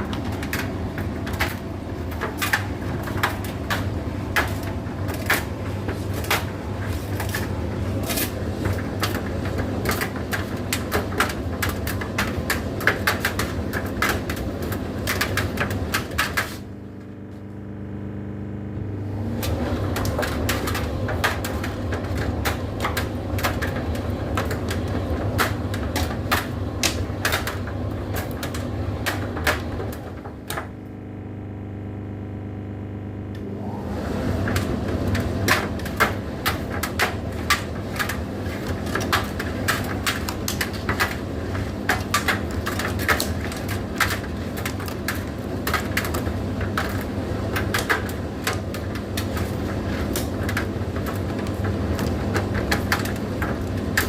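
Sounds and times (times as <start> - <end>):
clicks and knocks in dryer: 0.0 - 16.6, 19.3 - 30.8, 34.3 - 54.0
tumble dryer motor hum: 0.0 - 54.0.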